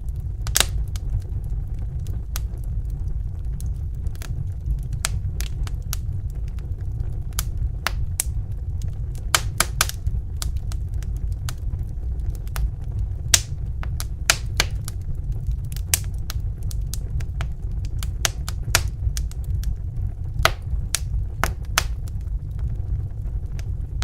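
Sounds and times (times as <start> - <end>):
low rumble of flames: 0.0 - 24.0
wood fire popping and snapping: 0.0 - 24.0.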